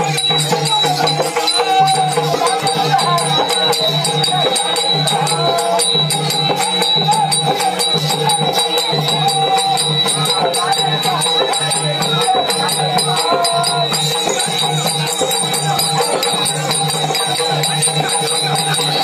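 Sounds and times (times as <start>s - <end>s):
fast rattling percussion: 0.0s - 19.0s.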